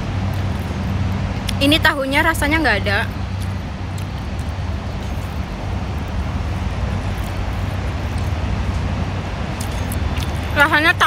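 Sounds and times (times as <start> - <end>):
hiss of passing vehicles: 0.0 - 11.0
low engine rumble: 0.0 - 11.0.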